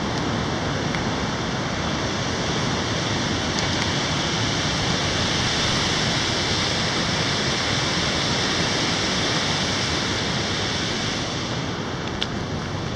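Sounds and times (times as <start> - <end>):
river rushing: 0.0 - 12.9.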